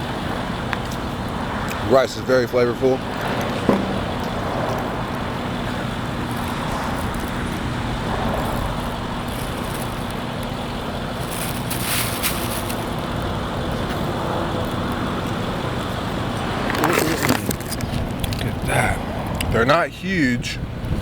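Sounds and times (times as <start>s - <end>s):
low engine hum: 0.0s - 19.6s
traffic noise: 0.0s - 21.0s.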